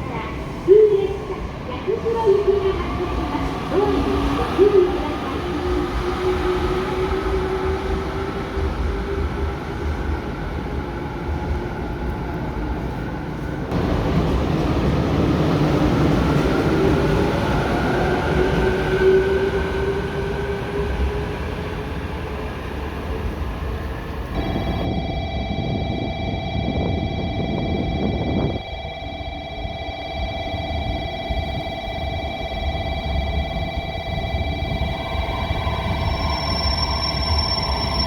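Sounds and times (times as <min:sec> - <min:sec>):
electric train whining and rumbling: 0:00.0 - 0:38.0.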